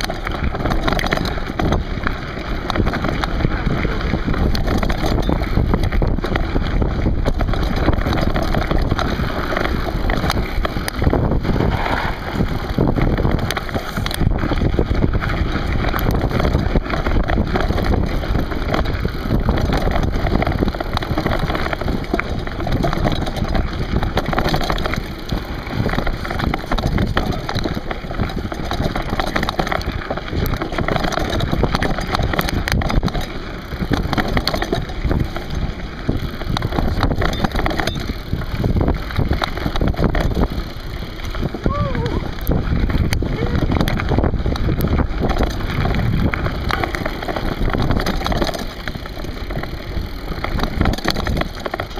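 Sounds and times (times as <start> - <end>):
bike tyres crunching on gravel: 0.0 - 51.9
wind buffeting microphone: 0.0 - 51.9.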